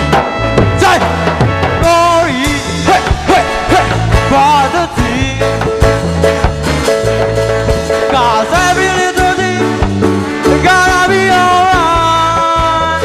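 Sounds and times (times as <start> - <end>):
bass line: 0.0 - 13.0
drum kit: 0.0 - 13.0.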